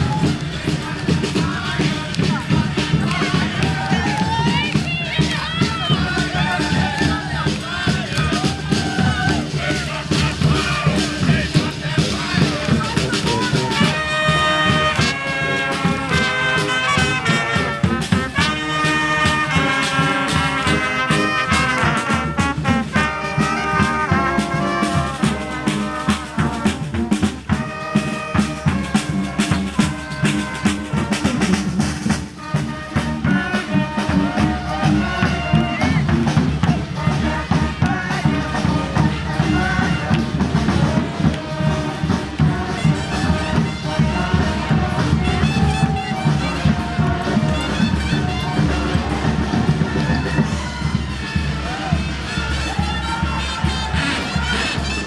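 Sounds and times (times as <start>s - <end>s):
brass band horns playing: 0.0s - 55.0s
steady drum beat: 0.0s - 55.0s.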